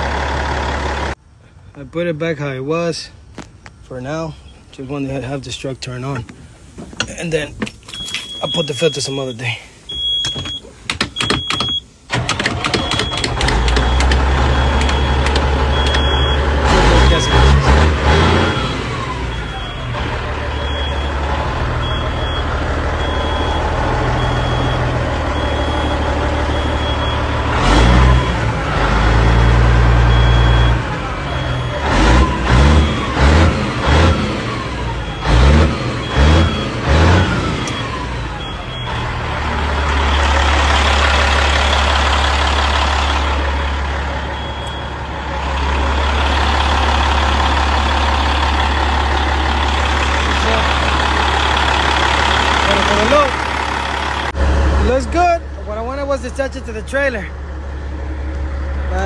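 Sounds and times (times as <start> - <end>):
diesel truck engine running: 0.0 - 1.7, 11.4 - 59.0.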